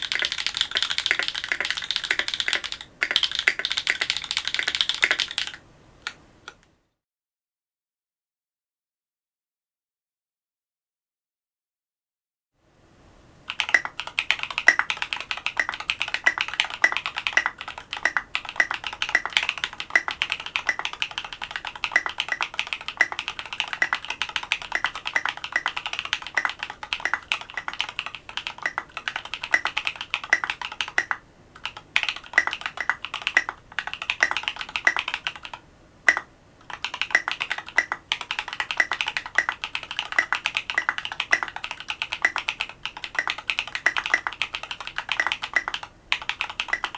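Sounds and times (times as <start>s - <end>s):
fast mechanical keyboard typing: 0.0s - 5.6s, 13.5s - 46.9s.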